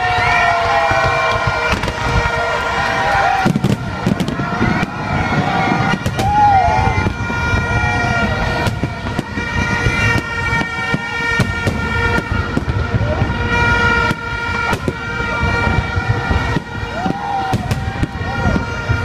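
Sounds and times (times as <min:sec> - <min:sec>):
deep continuous rumble: 0:00.0 - 0:19.0
fireworks bangs and crackles: 0:00.0 - 0:19.0.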